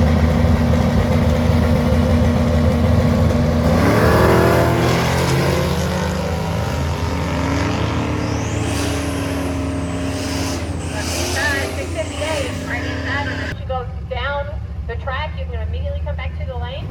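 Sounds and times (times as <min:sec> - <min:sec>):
drag racing engine revving: 0:00.0 - 0:13.6.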